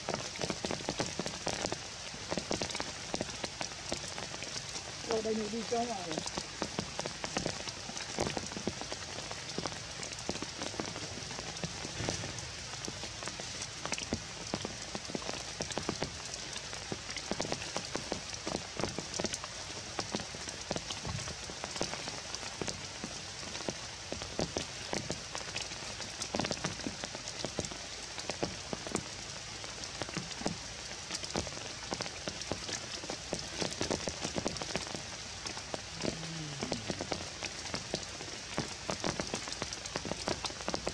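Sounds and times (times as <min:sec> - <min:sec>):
rain falling on foliage: 0:00.0 - 0:40.9
raindrop hits: 0:00.1 - 0:40.9.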